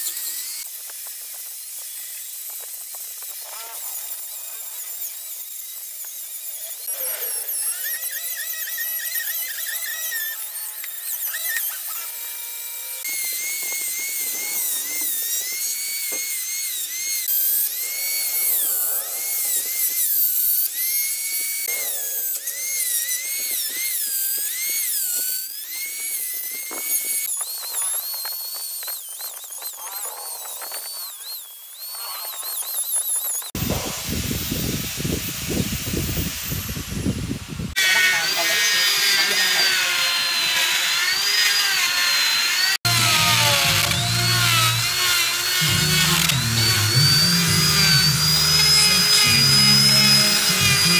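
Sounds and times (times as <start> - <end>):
rotary carving tool whining: 0.0 - 50.9
rough grinding noise: 0.0 - 50.9.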